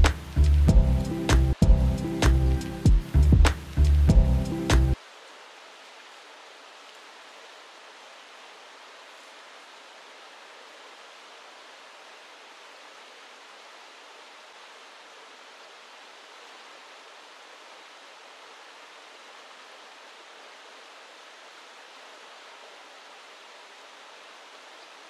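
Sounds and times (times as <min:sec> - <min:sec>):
river flowing over riffles: 0:00.0 - 0:25.0.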